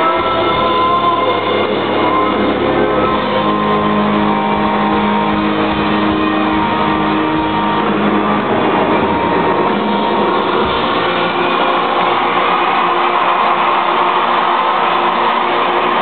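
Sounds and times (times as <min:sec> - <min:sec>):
distorted electric guitars: 0:00.0 - 0:16.0
muffled live rock band: 0:00.0 - 0:16.0.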